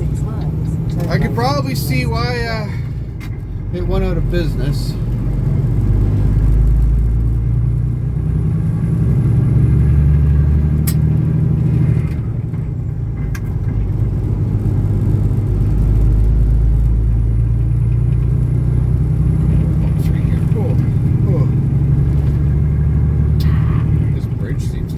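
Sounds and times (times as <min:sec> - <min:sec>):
diesel truck engine droning: 0:00.0 - 0:24.9
road noise: 0:00.0 - 0:24.9.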